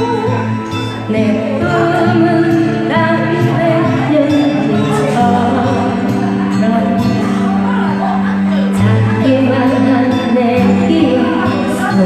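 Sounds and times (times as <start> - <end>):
husky-voiced person singing: 0.0 - 12.0
instrumental accompaniment: 0.0 - 12.0.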